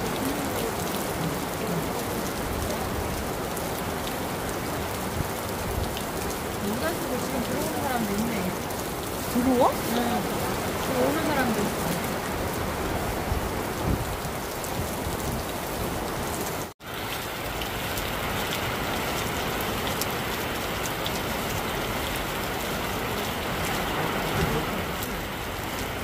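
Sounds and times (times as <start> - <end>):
heavy rain falling: 0.0 - 26.0
raindrops pattering on surfaces: 0.0 - 26.0.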